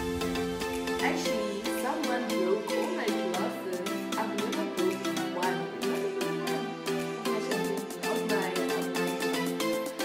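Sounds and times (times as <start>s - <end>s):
instrumental music over a beat: 0.0s - 10.0s.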